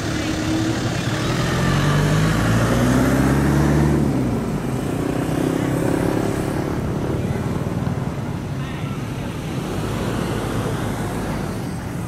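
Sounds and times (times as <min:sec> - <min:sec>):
vehicle engine passing by: 0:00.0 - 0:08.2, 0:09.3 - 0:12.0.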